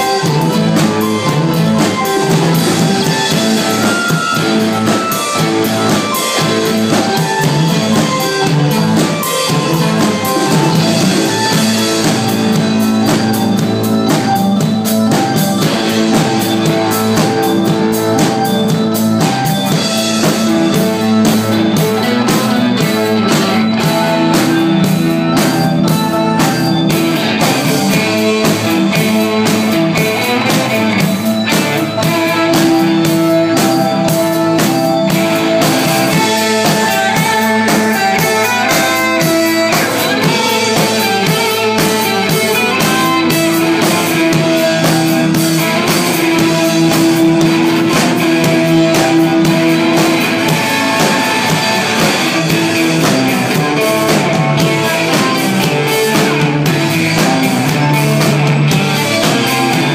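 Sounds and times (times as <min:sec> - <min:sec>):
drum kit beating: 0:00.0 - 0:59.9
electric guitar: 0:00.0 - 0:59.9
sustained pitched tones: 0:00.0 - 0:59.9.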